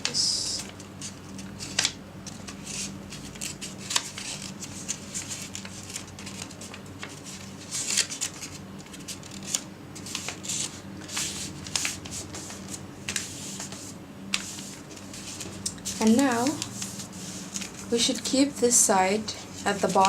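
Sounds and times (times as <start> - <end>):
paper rustling and crackling: 0.0 - 18.5, 19.2 - 20.0.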